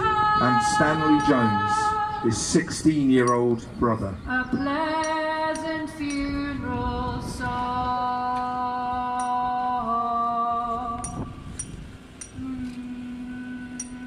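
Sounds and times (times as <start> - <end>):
woman singing unaccompanied: 0.0 - 2.9, 4.2 - 14.0.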